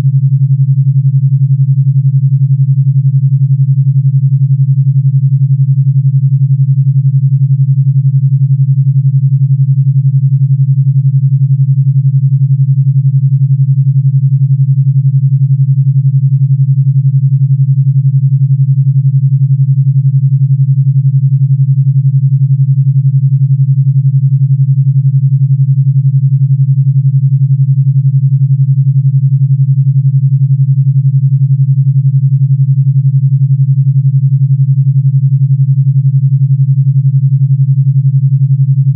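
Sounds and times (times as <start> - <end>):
pulsing sine tone: 0.0 - 38.9.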